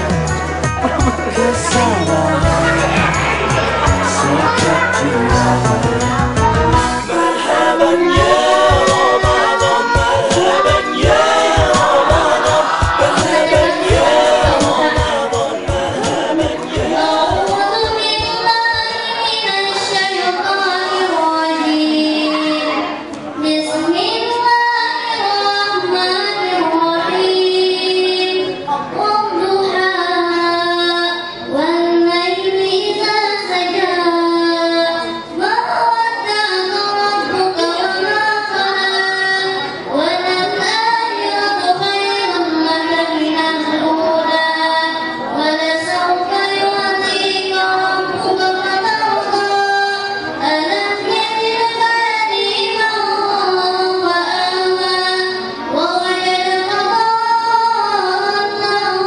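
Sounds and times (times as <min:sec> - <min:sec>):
girl singing into microphone: 0:06.0 - 0:59.0.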